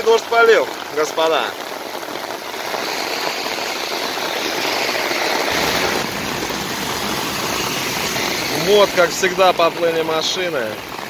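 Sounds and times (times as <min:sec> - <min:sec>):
heavy rain on road: 0:00.0 - 0:11.0
car engine rumble: 0:01.6 - 0:11.0.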